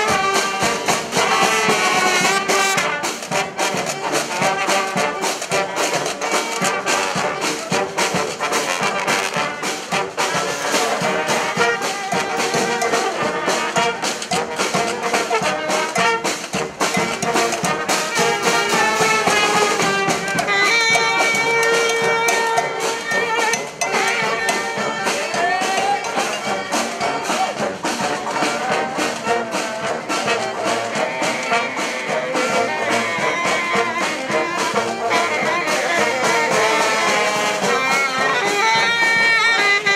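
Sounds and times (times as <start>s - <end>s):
brass band horn lines: 0.0s - 39.9s
steady percussion beat: 0.0s - 39.9s.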